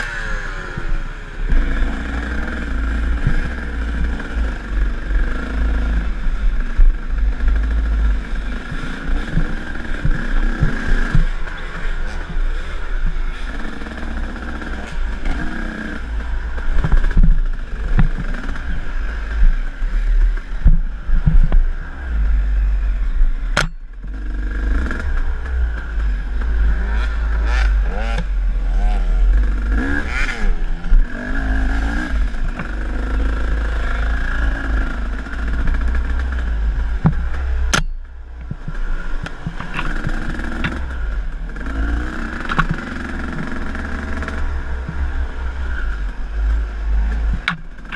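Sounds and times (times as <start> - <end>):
dirt bike engine revving: 0.0 - 37.9, 38.5 - 47.9
wind rumble on microphone: 0.0 - 47.9.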